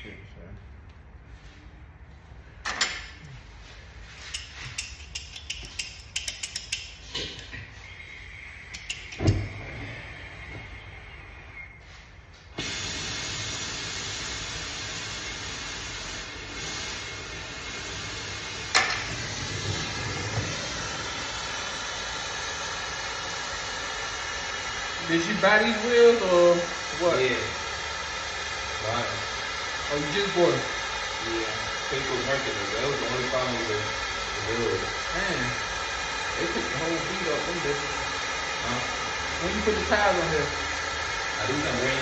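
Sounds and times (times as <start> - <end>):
steady hiss: 2.7 - 42.0.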